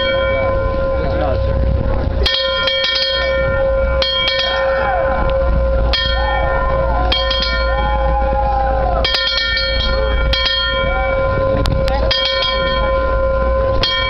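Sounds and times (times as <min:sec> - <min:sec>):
large metal bell ringing: 0:00.0 - 0:14.0.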